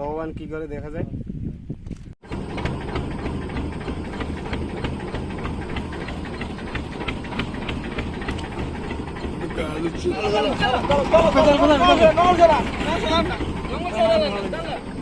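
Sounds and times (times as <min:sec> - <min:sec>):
boat engine running: 0:02.2 - 0:15.0.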